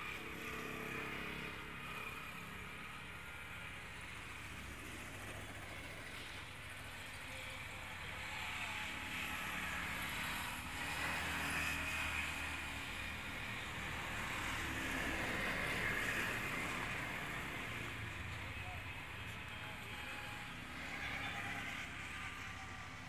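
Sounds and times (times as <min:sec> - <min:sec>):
highway traffic passing: 0:00.0 - 0:23.0.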